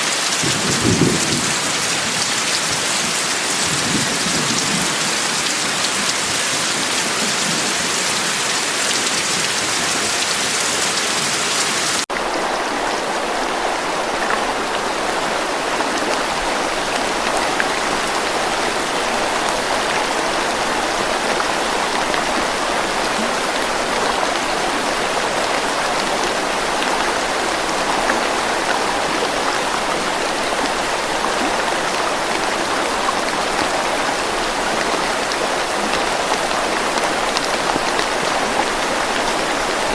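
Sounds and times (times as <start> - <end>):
dense rain patter: 0.0 - 39.9
steady rain: 0.0 - 39.9.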